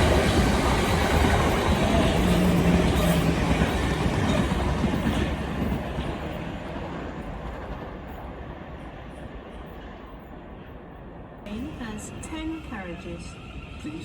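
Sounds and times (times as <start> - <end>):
train rumbling along track: 0.0 - 14.0.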